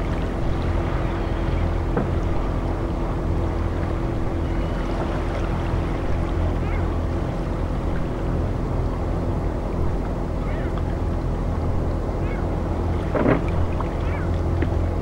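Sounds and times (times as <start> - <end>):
low drone of deep tones: 0.0 - 15.0
rushing sea-like wash: 0.0 - 15.0.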